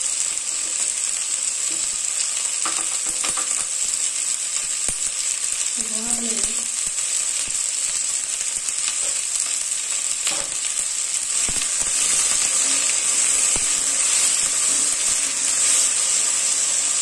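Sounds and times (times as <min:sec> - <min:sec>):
okra sizzling in oil: 0:00.0 - 0:17.0.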